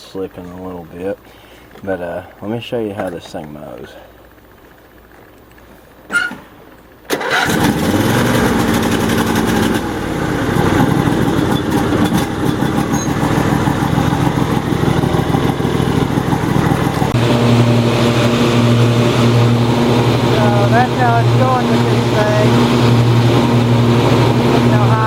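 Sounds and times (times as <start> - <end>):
riding mower engine running: 0.0 - 25.0.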